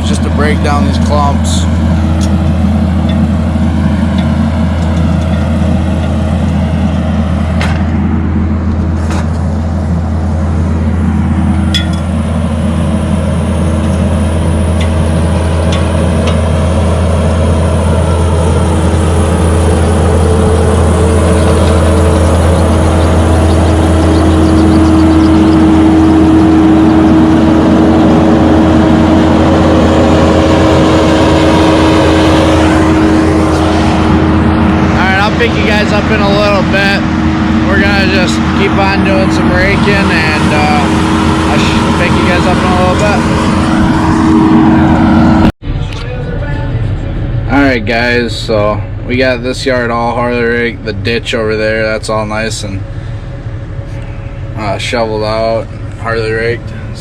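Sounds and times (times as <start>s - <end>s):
diesel engine under load: 0.0s - 57.0s
hydraulic whine: 0.0s - 57.0s.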